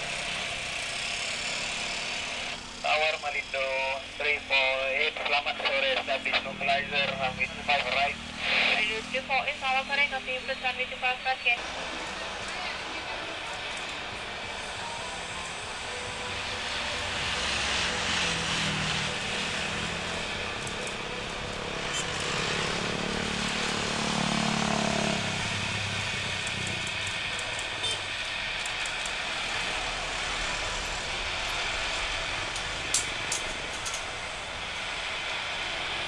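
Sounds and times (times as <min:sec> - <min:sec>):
jet engines rumbling: 0:02.1 - 0:36.0.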